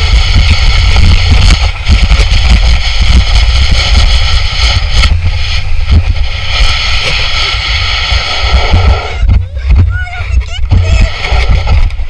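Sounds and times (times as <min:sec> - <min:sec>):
snow tube rumbling over snow: 0:00.0 - 0:12.0
wind buffeting microphone: 0:00.0 - 0:12.0.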